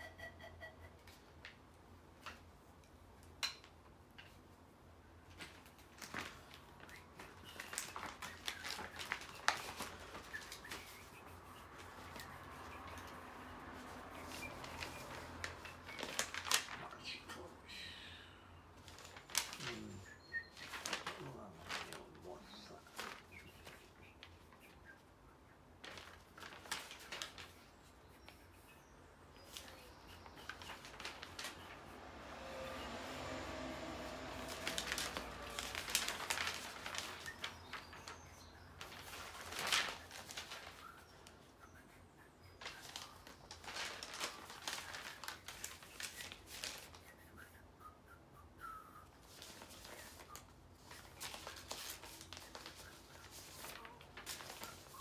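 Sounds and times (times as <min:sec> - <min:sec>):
paper rustling and crackling: 0:05.2 - 0:17.0, 0:18.8 - 0:25.1, 0:25.7 - 0:41.5, 0:42.4 - 0:47.2, 0:49.2 - 0:55.0.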